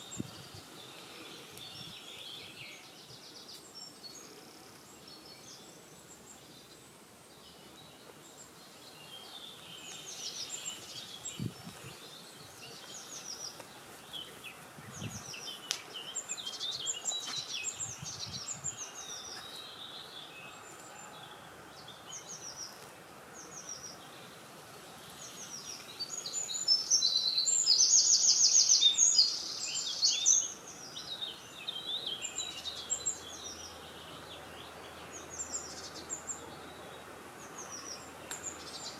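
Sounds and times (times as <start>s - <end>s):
faint outdoor background noise: 0.0s - 38.9s
songbirds singing and chirping: 0.0s - 38.9s.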